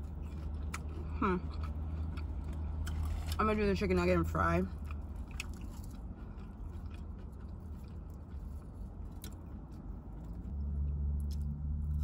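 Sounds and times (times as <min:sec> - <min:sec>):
person chewing crunchy food: 0:00.0 - 0:03.4, 0:04.7 - 0:12.0.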